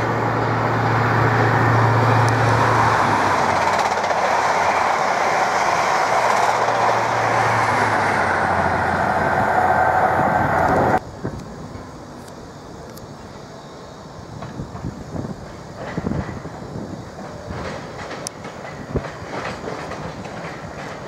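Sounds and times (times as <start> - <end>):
train wheels and air rushing: 0.0 - 21.0.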